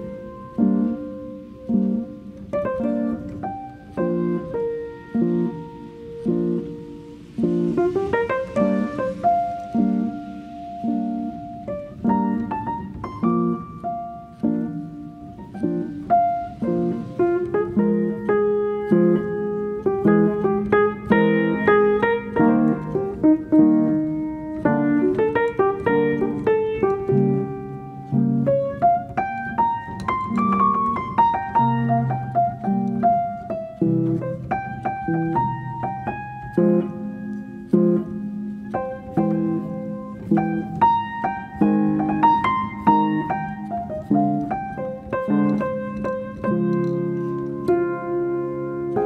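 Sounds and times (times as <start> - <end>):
gentle solo piano: 0.0 - 49.0.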